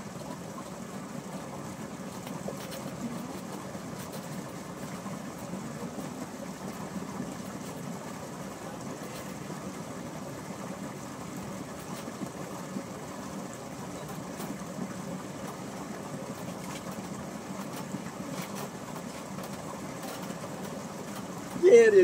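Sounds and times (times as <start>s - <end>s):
constant hiss: 0.0s - 22.0s
steady low hum: 0.0s - 22.0s.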